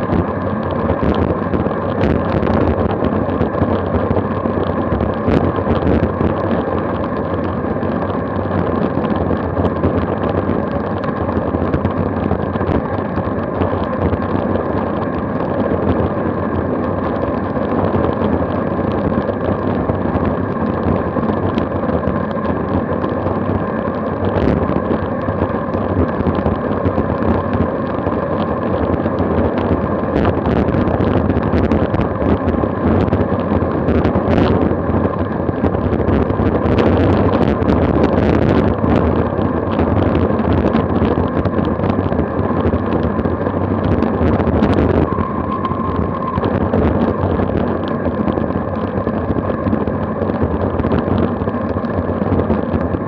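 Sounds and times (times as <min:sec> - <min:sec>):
road noise: 0:00.0 - 0:53.0
wind roaring on microphone: 0:00.0 - 0:53.0.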